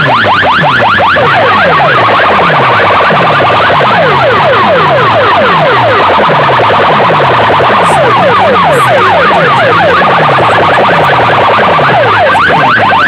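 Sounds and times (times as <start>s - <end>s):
siren-like falling pitch sweeps: 0.0s - 13.0s.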